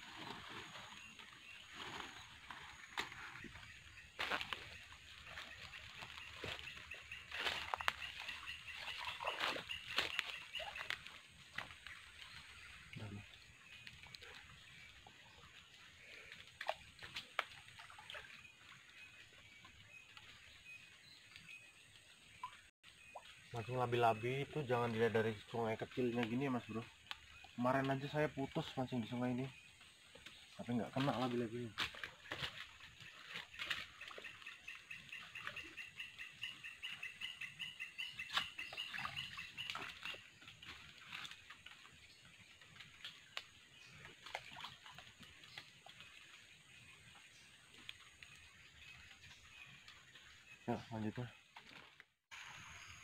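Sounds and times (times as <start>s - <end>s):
water splashing in a stream: 0.0s - 23.9s, 29.2s - 53.0s.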